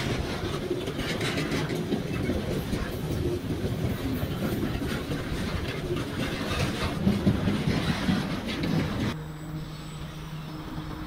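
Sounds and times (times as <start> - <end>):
wheels clattering over rail joints: 0.0 - 9.2
train rolling noise: 0.0 - 11.0.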